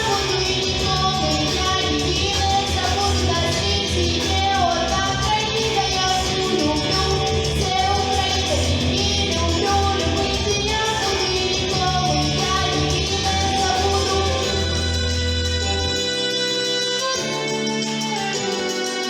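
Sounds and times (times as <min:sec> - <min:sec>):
band accompaniment with bass line: 0:00.0 - 0:19.0
person singing: 0:00.0 - 0:19.0.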